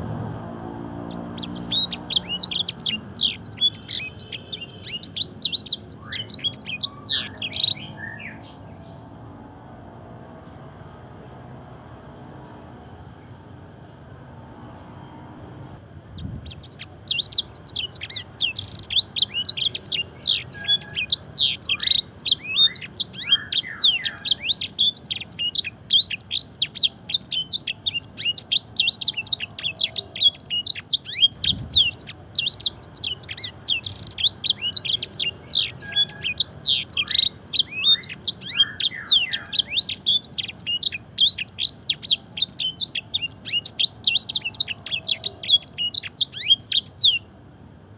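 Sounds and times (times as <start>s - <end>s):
canary singing: 0.8s - 9.1s, 16.2s - 47.4s.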